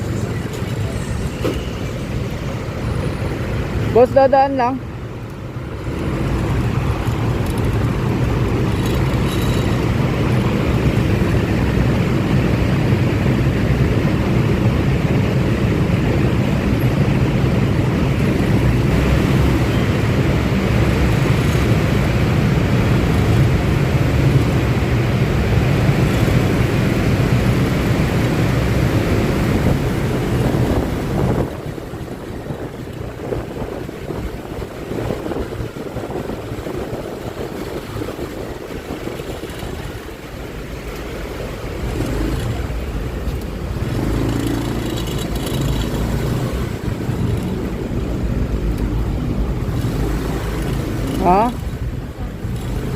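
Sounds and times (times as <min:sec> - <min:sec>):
scooter engine and road noise: 0:00.0 - 0:52.9
wind on microphone: 0:05.0 - 0:52.9.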